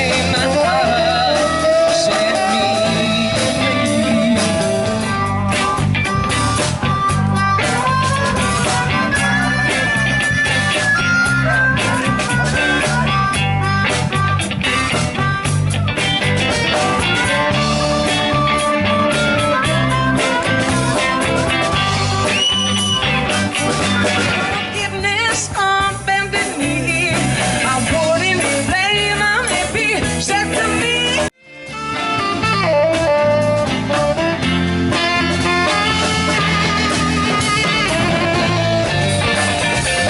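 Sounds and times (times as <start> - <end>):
bass: 0.0 - 40.0
drums: 0.0 - 40.0
lead guitar solo: 0.0 - 40.0.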